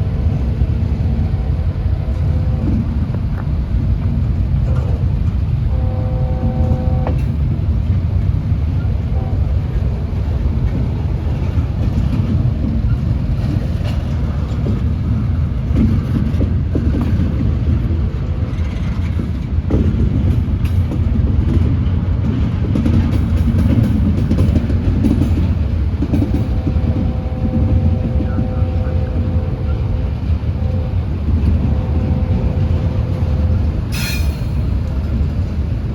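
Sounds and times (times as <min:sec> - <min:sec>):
freight train rumbling past: 0:00.0 - 0:35.9
clanks of train wheels: 0:02.1 - 0:05.8, 0:06.4 - 0:09.0, 0:09.6 - 0:35.9.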